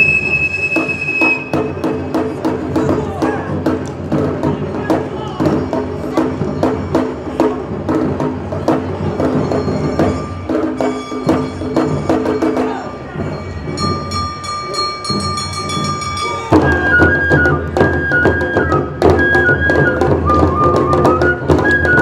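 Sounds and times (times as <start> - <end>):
bamboo flute: 0.0 - 14.8, 15.4 - 22.0
drums: 0.0 - 22.0
wooden percussion strikes: 0.0 - 22.0.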